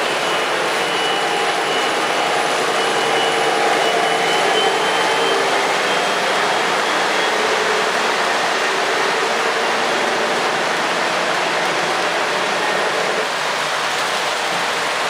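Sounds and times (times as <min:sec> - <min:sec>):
model train cars rolling: 0:00.0 - 0:15.0.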